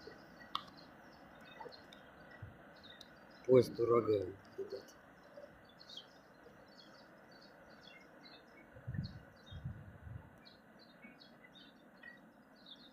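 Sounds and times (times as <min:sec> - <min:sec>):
soft outdoor hiss: 0:00.0 - 0:12.9
songbirds chirping: 0:00.0 - 0:12.9.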